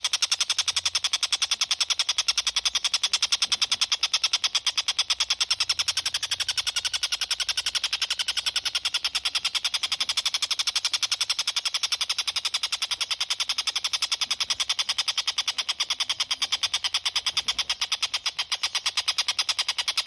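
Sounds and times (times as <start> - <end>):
kingfisher rattling call: 0.0 - 20.0.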